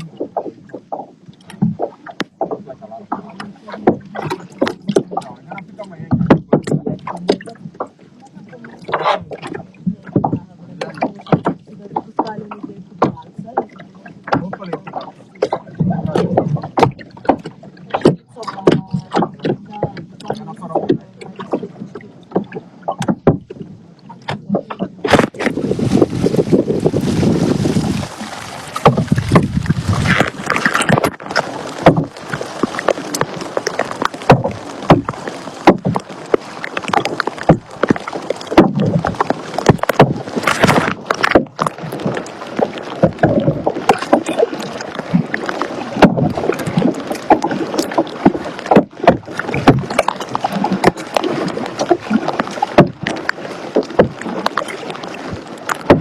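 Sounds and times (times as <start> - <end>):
paddle splashes and knocks: 0.0 - 56.0
water swishing: 0.0 - 56.0.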